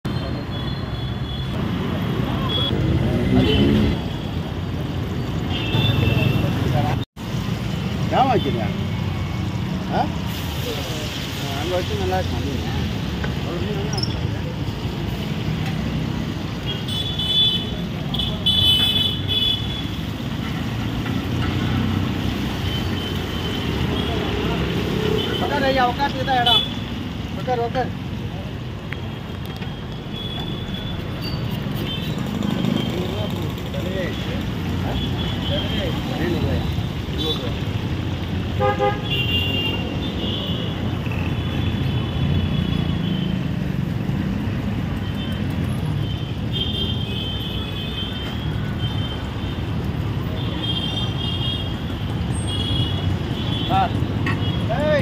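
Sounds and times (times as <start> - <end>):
passing vehicles rumbling: 1.5 - 17.0, 17.6 - 55.0.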